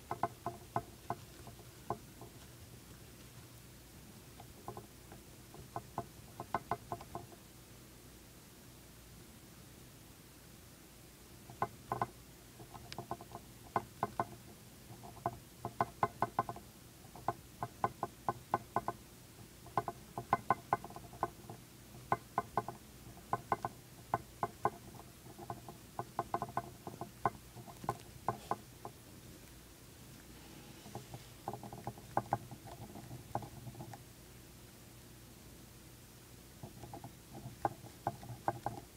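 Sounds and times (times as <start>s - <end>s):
hamster gnawing: 0.0s - 7.4s, 11.4s - 34.8s, 36.5s - 38.9s.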